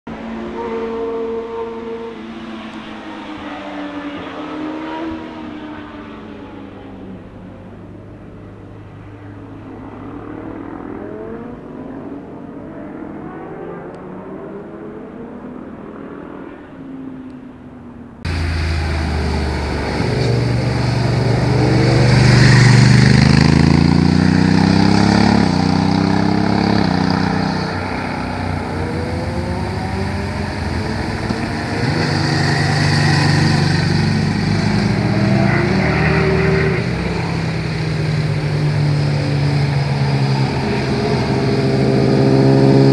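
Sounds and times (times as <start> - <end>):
motorcycle engines revving: 0.1 - 42.9.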